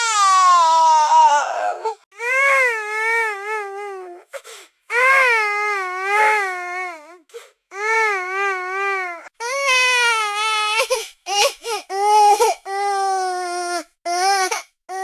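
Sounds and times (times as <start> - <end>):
baby crying: 0.0 - 4.2, 4.9 - 15.0.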